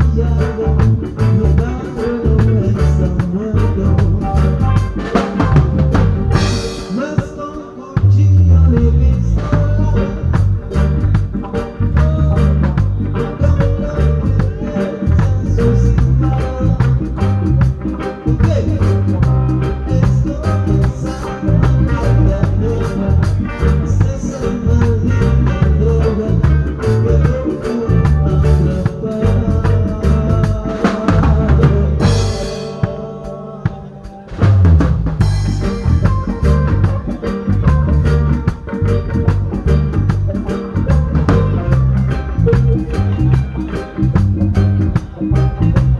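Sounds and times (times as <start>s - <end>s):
band music: 0.0s - 45.9s.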